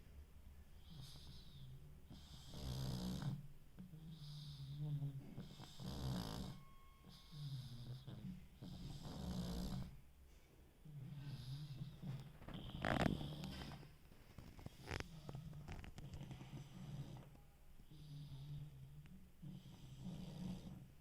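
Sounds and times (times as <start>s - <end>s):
dog snoring: 0.8s - 10.0s, 10.8s - 13.8s, 14.6s - 21.0s.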